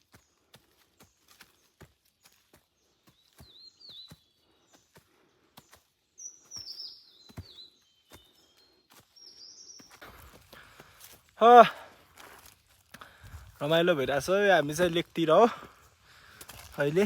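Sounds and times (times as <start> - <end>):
small birds singing: 0.0 - 11.6, 13.0 - 17.0
footsteps on a trail: 0.0 - 17.0.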